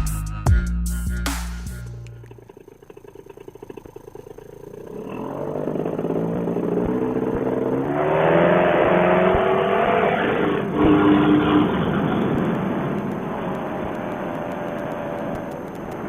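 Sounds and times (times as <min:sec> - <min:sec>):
paramotor engine and propeller: 0:02.2 - 0:16.0.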